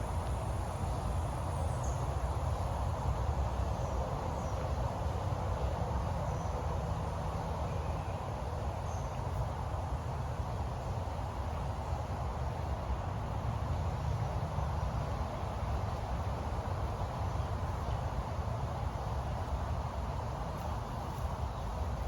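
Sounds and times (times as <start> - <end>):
low rumble and hiss: 0.0 - 22.0.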